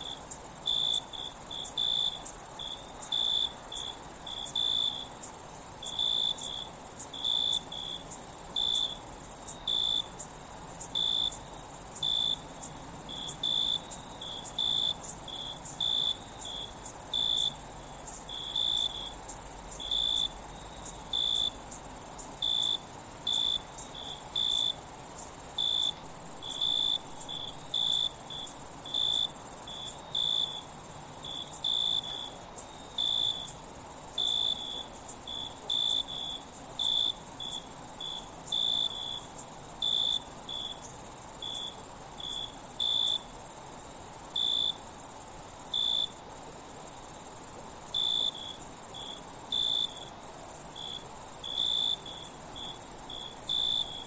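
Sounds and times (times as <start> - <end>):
cricket chirping: 0.0 - 54.0
insects trilling: 0.0 - 54.0.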